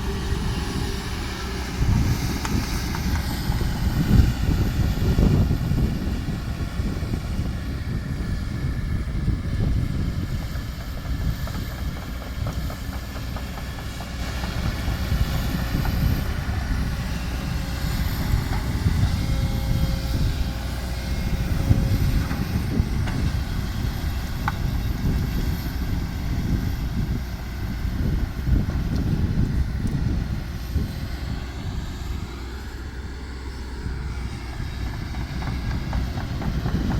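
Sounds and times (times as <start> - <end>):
diesel truck engine rumbling: 0.0 - 36.9.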